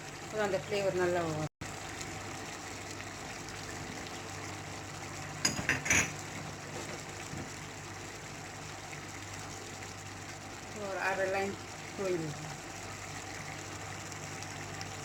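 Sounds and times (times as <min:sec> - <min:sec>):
gravy simmering with a hiss: 0:00.0 - 0:15.0.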